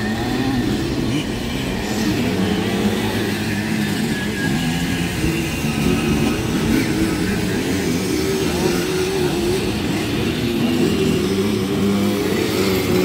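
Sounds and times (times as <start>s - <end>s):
two-stroke motorbike engines running: 0.0s - 13.0s.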